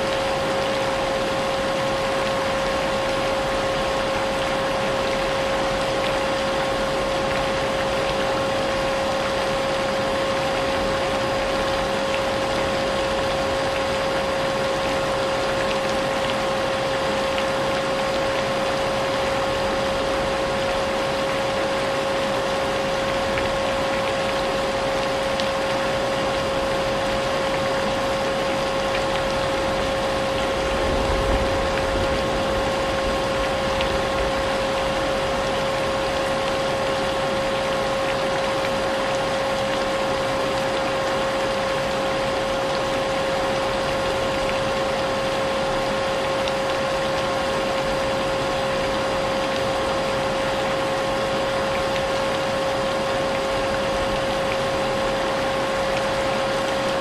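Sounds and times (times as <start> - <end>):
rain: 0.0 - 57.0.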